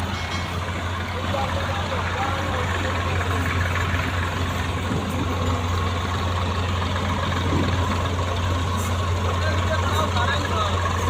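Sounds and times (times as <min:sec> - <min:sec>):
heavy vehicle engine idling: 0:00.0 - 0:11.0.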